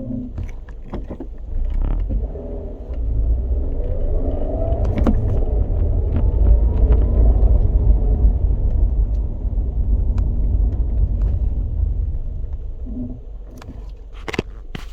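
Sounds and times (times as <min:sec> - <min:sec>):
car rumbling on the move: 0:00.0 - 0:14.9.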